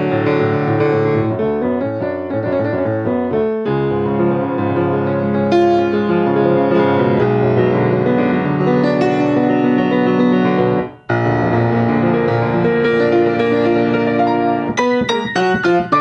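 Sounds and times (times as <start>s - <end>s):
solo grand piano: 0.0s - 16.0s.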